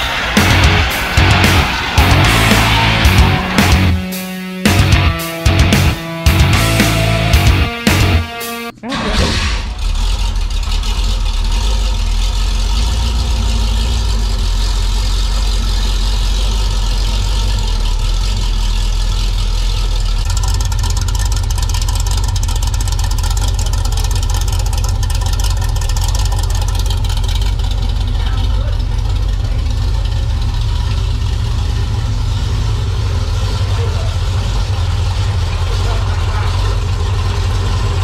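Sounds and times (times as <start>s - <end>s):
race car engine idling: 0.0s - 8.3s, 9.6s - 38.0s.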